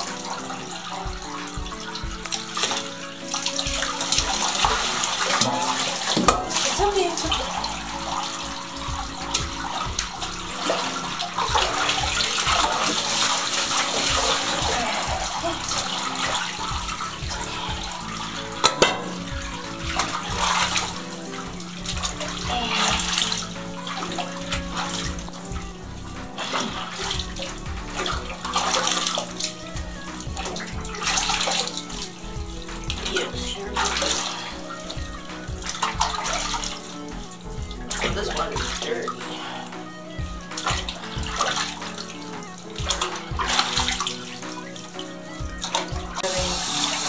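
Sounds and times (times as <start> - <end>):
background music: 0.0 - 47.0
bath water sloshing and splashing: 0.0 - 47.0.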